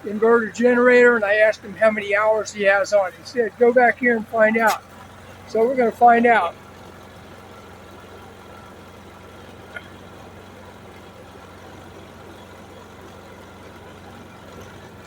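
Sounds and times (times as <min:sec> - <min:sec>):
generator running: 0:00.0 - 0:15.0.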